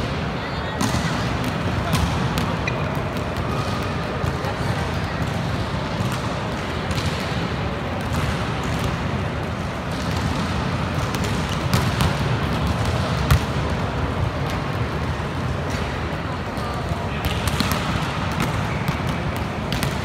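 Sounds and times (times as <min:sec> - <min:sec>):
sports hall noise: 0:00.0 - 0:20.0.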